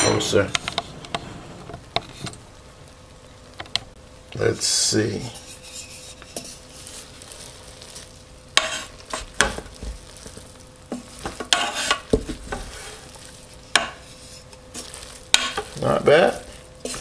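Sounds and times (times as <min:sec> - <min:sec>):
wooden spoon scraping pot: 0:00.0 - 0:02.4, 0:05.2 - 0:17.0.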